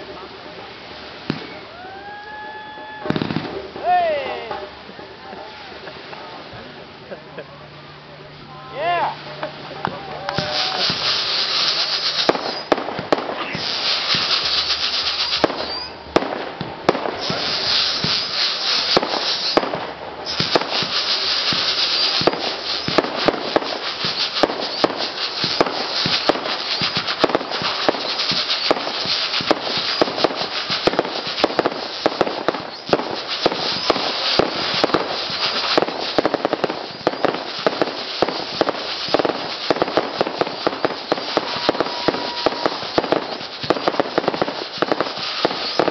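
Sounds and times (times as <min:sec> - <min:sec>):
fireworks crackling pops: 0:00.0 - 0:45.9
fireworks launch hiss: 0:00.0 - 0:45.9.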